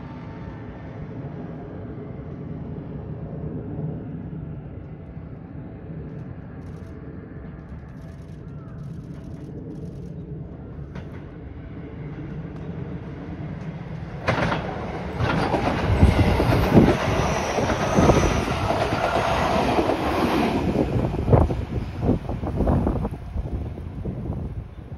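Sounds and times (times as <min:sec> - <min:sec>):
train low rumble: 0:00.0 - 0:24.9.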